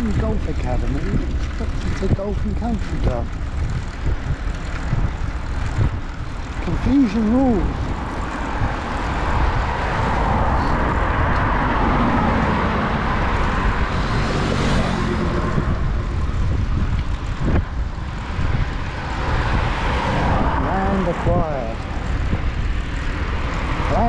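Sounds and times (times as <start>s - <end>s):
cars passing: 0.0s - 24.0s
motorbike passing: 0.0s - 24.0s.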